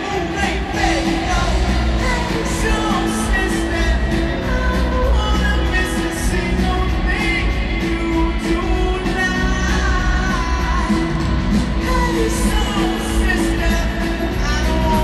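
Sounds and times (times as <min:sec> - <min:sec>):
live pop rock band: 0:00.0 - 0:15.0
man singing lead vocals: 0:00.0 - 0:15.0.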